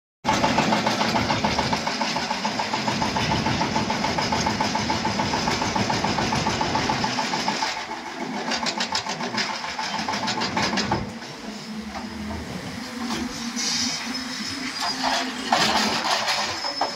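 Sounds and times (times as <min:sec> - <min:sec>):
excavator diesel engine running: 0:00.2 - 0:16.9.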